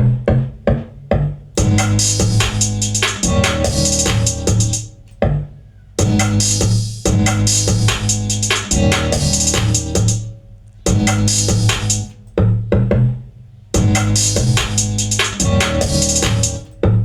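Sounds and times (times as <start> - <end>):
drum machine and synthesizer beat: 0.3 - 13.0, 13.8 - 17.0.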